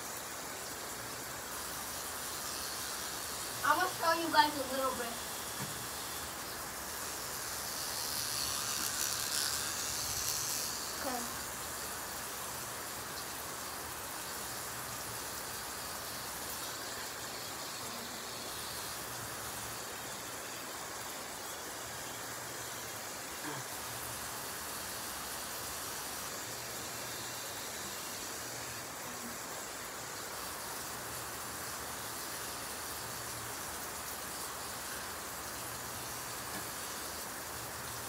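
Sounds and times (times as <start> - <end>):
water running: 0.0 - 38.0.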